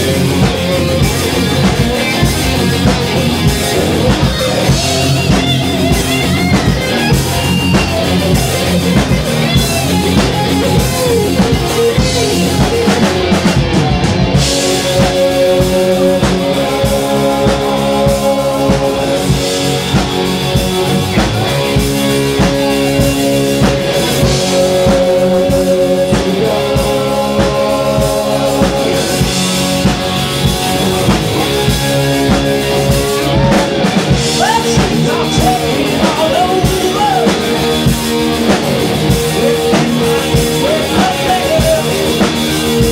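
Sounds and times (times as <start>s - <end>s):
heavy metal band playing: 0.0s - 42.9s.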